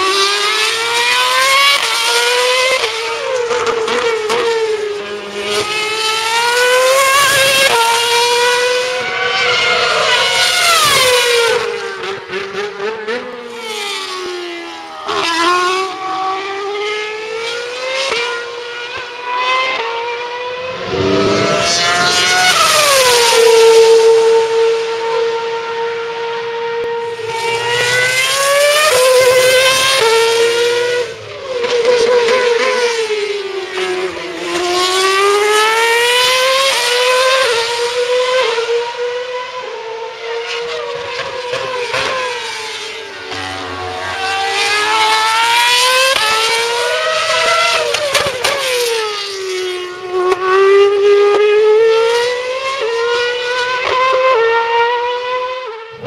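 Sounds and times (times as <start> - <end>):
racing cars passing at high revs: 0.0 - 56.0.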